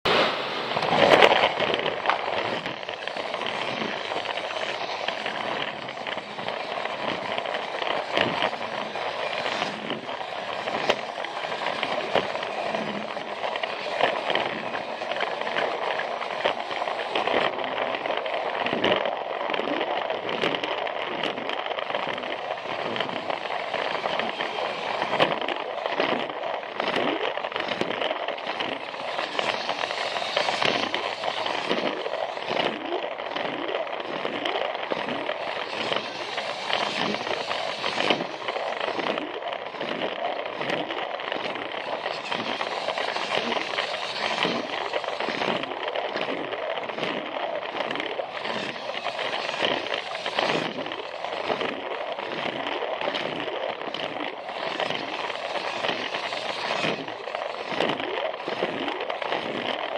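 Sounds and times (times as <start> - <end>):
wheels clicking on track joints: 0.0 - 59.9
toy train motor whir: 0.1 - 59.9.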